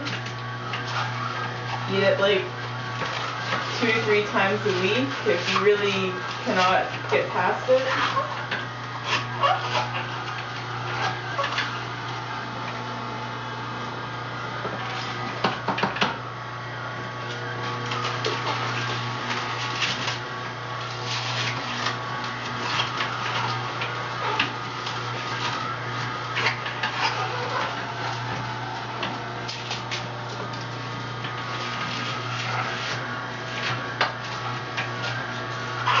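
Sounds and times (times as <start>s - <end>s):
juicer motor humming: 0.0s - 36.0s.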